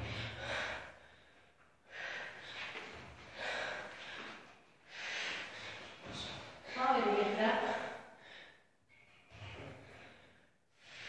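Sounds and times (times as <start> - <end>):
person breathing hard: 0.0 - 7.0, 7.6 - 11.0.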